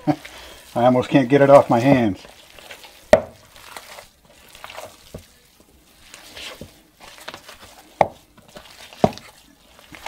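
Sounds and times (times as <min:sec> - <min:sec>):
hands squelching ground meat: 0:00.0 - 0:10.0.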